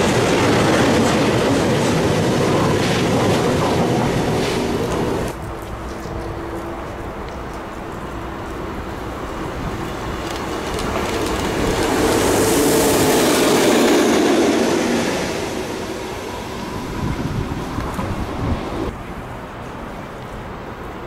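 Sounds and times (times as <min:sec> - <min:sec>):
locomotives passing: 0:00.0 - 0:21.0.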